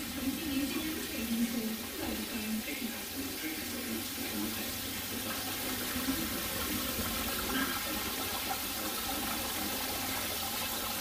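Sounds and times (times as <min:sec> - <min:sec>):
water pouring down drain: 0:00.0 - 0:11.0.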